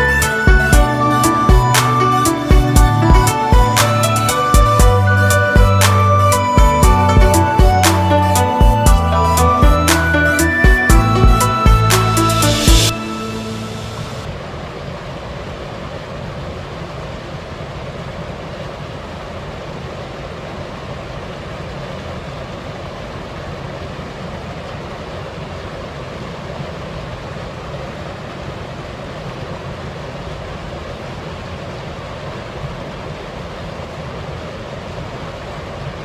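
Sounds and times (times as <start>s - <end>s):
steady background noise: 0.0s - 36.0s.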